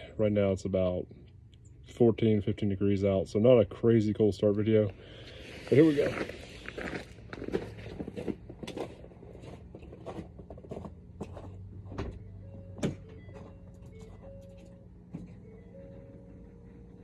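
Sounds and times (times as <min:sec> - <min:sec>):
faint steady ignition whine: 0:00.0 - 0:17.0.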